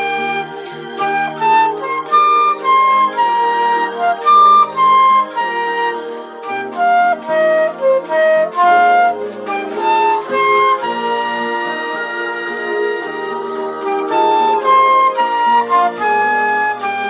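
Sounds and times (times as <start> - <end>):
slow instrumental background music: 0.0 - 17.0.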